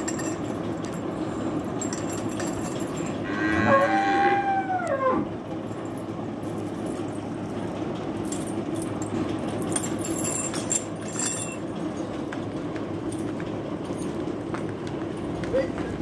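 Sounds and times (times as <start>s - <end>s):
metal chain clinking: 0.0s - 4.6s, 5.5s - 16.0s.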